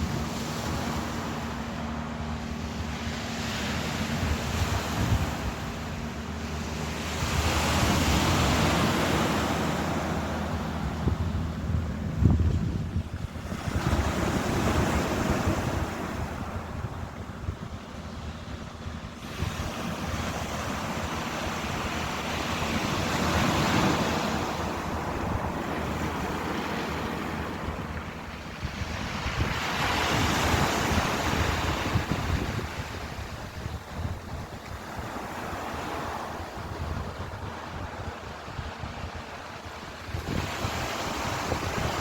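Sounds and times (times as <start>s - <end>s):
ocean waves breaking: 0.0s - 42.0s
wind buffeting microphone: 0.0s - 42.0s.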